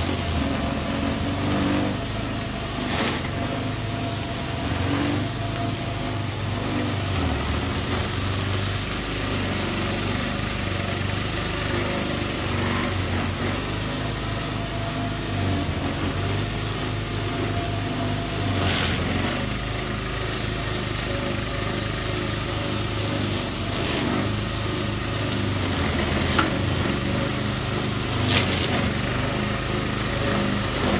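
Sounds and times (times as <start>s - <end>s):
brush cutter engine running: 0.0s - 30.9s
hiss: 0.0s - 30.9s.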